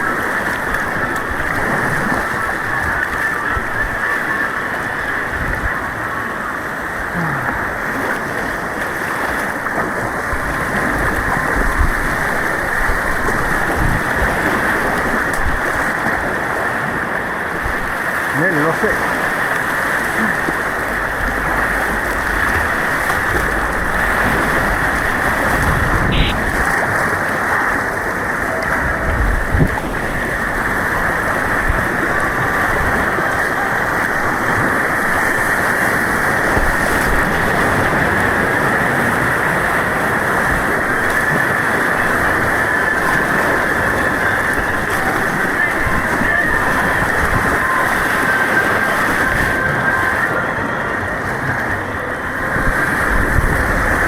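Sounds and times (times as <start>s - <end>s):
white water rushing: 0.0s - 54.0s.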